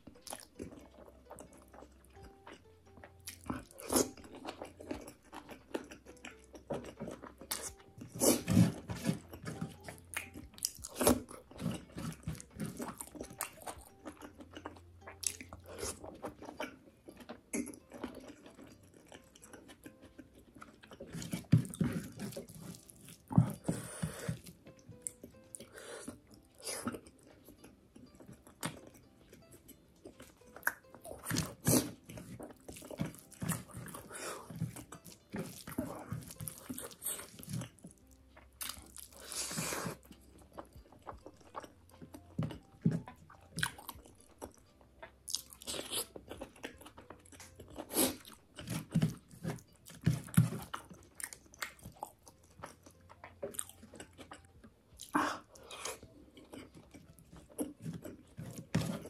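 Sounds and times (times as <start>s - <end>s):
person chewing with wet smacks: 0.0s - 59.0s.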